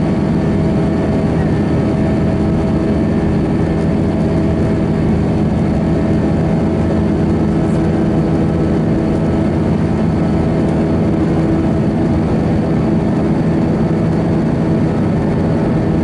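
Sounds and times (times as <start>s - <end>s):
jet engine cabin drone: 0.0s - 16.0s.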